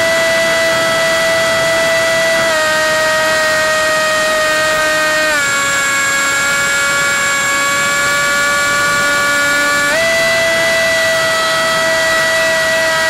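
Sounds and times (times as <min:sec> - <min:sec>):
electric motor and propeller whine: 0:00.0 - 0:13.0.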